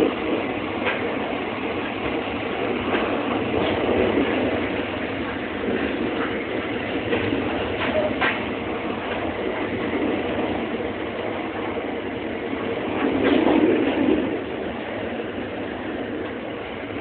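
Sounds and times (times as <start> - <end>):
track clacks: 0.0 - 17.0
train wheels rumbling on track: 0.0 - 17.0.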